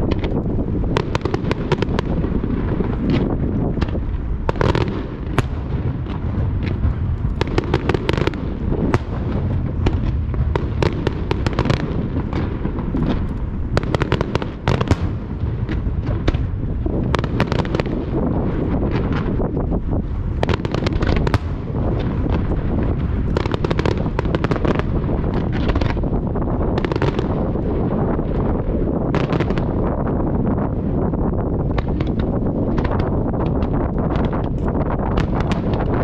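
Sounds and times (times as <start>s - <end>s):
fireworks crackling: 0.0s - 36.0s
fireworks rumble: 0.0s - 36.0s.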